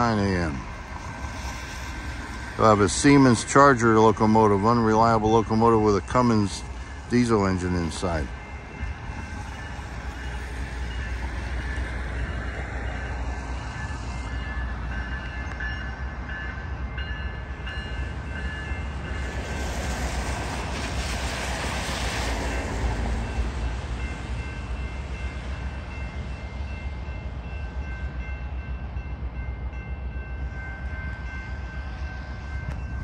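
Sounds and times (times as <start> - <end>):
diesel locomotive engine rumble: 0.0 - 33.0
train wheels on rails: 0.0 - 33.0.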